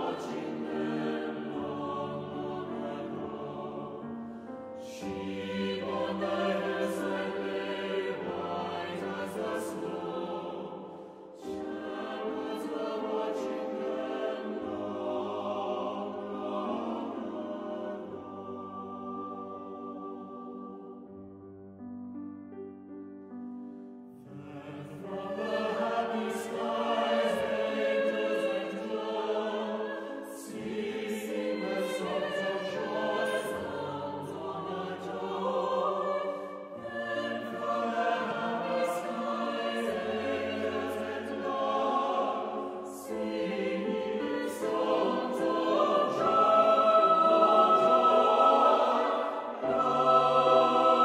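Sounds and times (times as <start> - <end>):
mixed choir singing: 0.0 - 21.3, 24.2 - 51.0.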